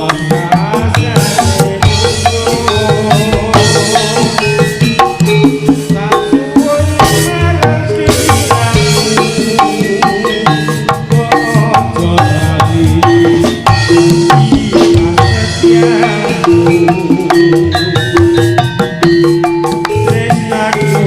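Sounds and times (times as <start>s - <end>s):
hand drums: 0.0s - 21.0s
ringing gamelan metal notes: 0.0s - 21.0s.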